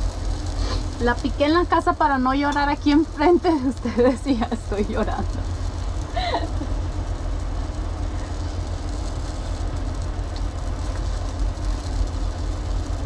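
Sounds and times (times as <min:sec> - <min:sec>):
onions sizzling in a pot: 0:00.0 - 0:13.0.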